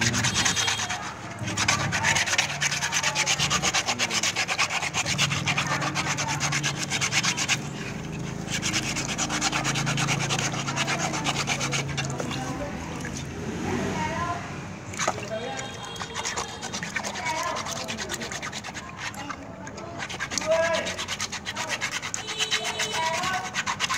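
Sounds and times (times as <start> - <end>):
sandpaper scratching on metal: 0.0 - 13.3, 15.5 - 23.9.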